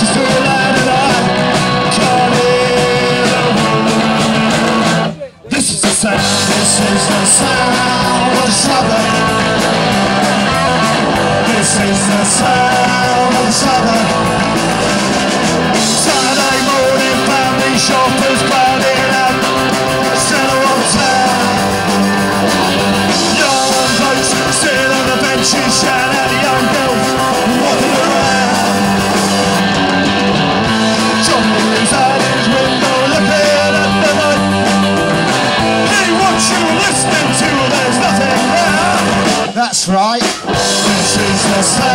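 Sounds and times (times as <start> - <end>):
electric guitar: 0.0 - 41.9
live punk rock band: 0.0 - 41.9.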